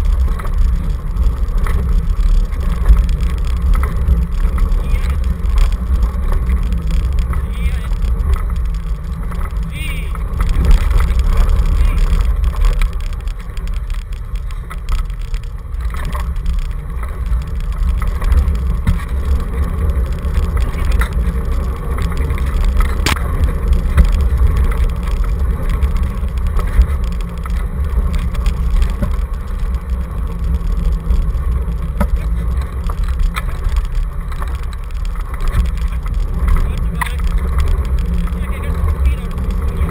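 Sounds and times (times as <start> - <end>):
scooter wheels rumbling on dirt: 0.0 - 39.9.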